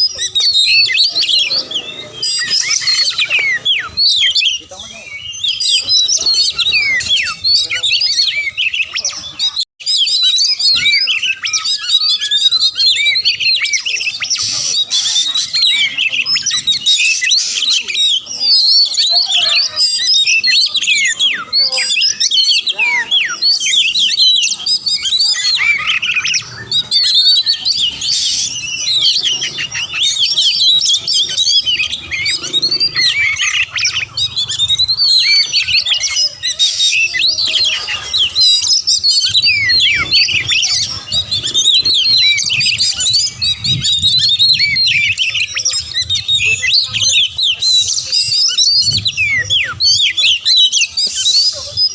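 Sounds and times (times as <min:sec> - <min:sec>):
bird singing whistled phrases: 0:00.0 - 0:51.9.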